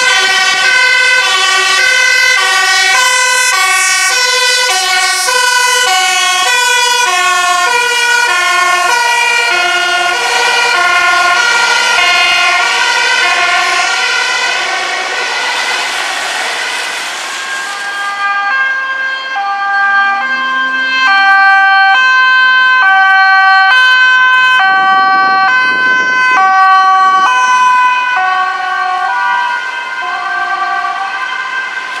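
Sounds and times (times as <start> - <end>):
engine and tyre noise: 0.0 - 32.0
two-tone siren: 0.0 - 32.0.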